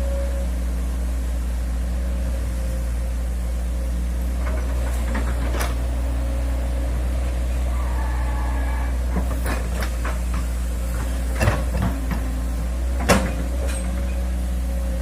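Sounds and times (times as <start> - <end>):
excavator engine drone: 0.0 - 15.0.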